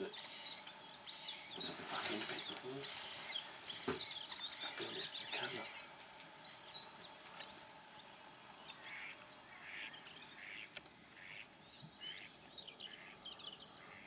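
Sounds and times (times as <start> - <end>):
harsh bird calls: 0.0 - 14.0.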